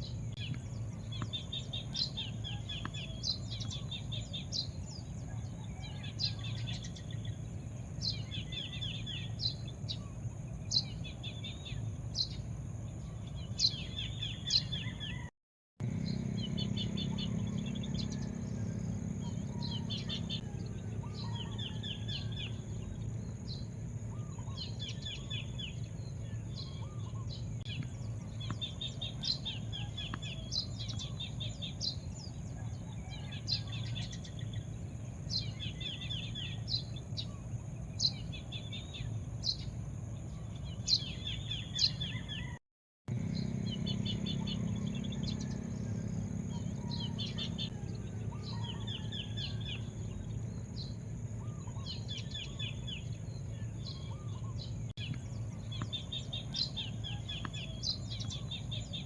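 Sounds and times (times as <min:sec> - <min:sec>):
low outdoor rumble: 0:00.0 - 0:59.0
small birds chirping: 0:00.0 - 0:59.0.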